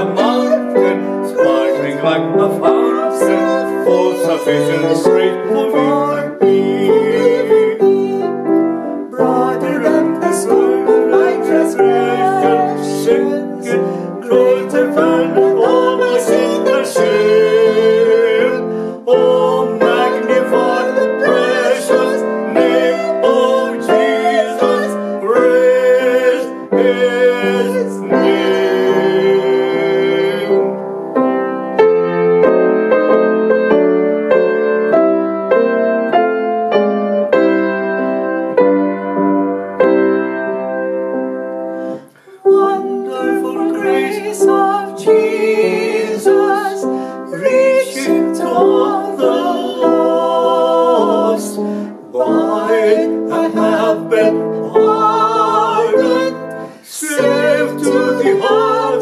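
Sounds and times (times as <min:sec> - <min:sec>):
voices singing a hymn: 0:00.0 - 0:31.2, 0:41.8 - 0:59.0
upright piano: 0:00.0 - 0:59.0.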